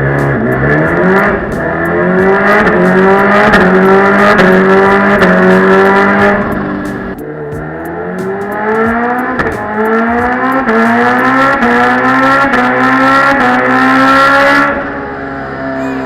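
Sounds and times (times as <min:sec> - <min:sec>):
motorcycle engine revving through gears: 0:00.0 - 0:15.8.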